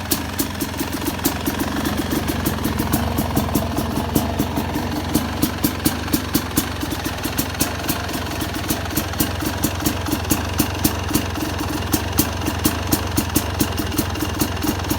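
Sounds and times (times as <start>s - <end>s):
two-stroke engine idling: 0.0s - 14.9s.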